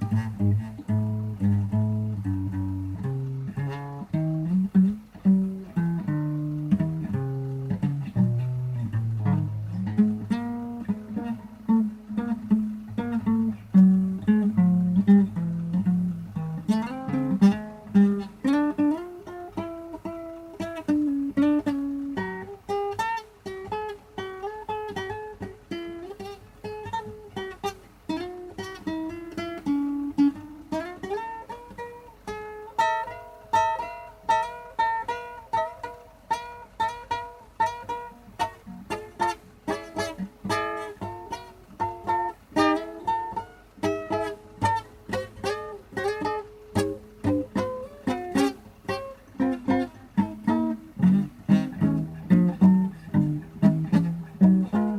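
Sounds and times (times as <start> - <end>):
plucked string blues improvisation: 0.0 - 54.9.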